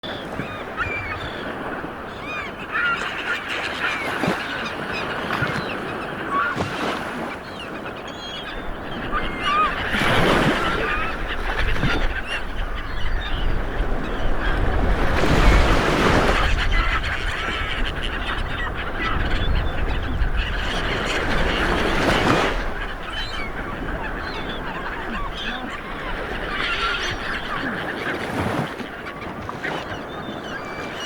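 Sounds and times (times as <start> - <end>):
flock of birds calling: 0.1 - 31.0.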